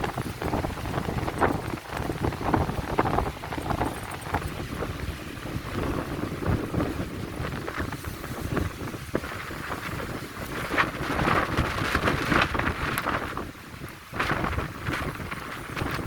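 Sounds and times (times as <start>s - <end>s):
gusty wind on microphone: 0.0s - 16.0s.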